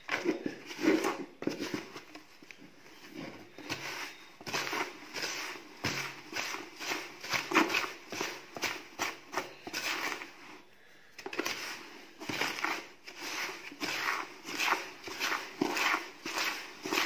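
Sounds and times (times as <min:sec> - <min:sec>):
metal shavings scraping in plastic bucket: 0:00.1 - 0:02.1, 0:03.0 - 0:10.6, 0:11.3 - 0:17.0.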